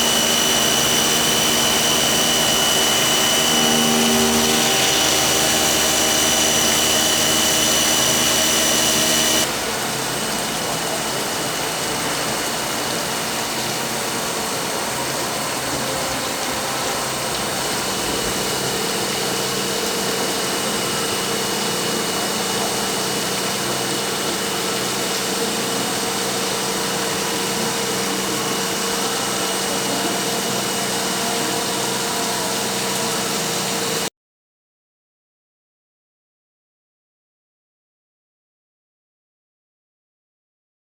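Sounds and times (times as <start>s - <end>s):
machine running with whining tones: 0.0s - 34.1s.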